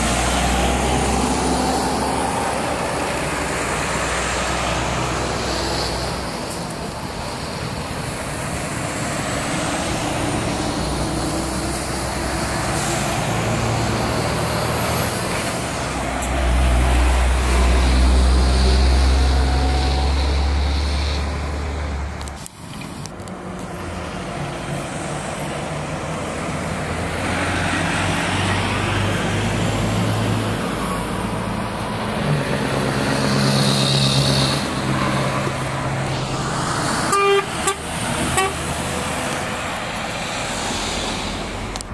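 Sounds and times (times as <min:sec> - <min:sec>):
diesel trucks driving past: 0:00.0 - 0:41.9.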